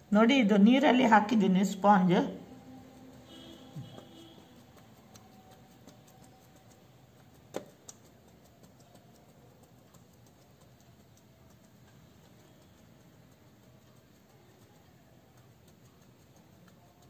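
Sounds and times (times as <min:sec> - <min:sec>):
wet sponge dabbing on paper: 0:01.4 - 0:17.0.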